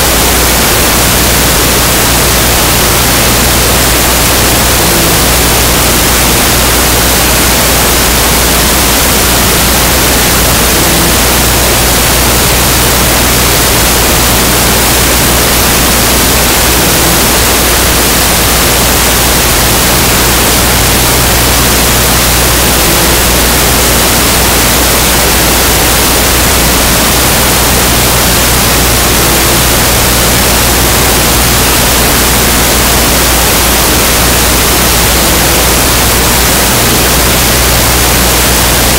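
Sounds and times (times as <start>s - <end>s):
low electrical hum: 0.0s - 38.9s
static hiss: 0.0s - 38.9s.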